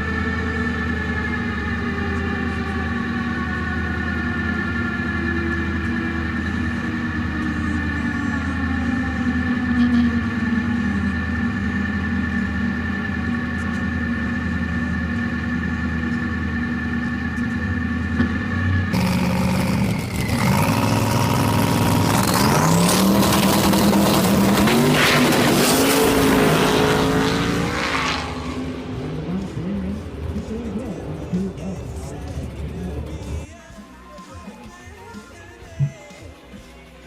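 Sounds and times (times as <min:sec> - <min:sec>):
drag car engine revving: 0:00.0 - 0:33.5.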